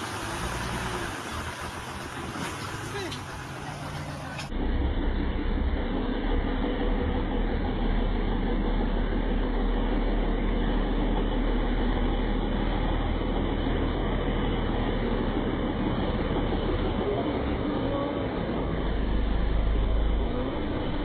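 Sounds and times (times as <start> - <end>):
truck churning through mud: 0.0 - 21.0
truck diesel engine under load: 0.0 - 21.0.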